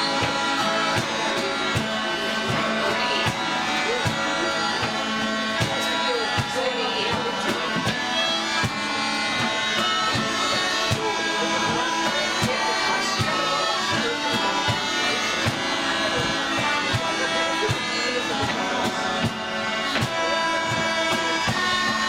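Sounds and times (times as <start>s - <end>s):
accordion: 0.0s - 22.0s
fiddle: 0.0s - 22.0s
low regular beat: 0.0s - 22.0s
smallpipes playing a tune: 0.0s - 22.0s.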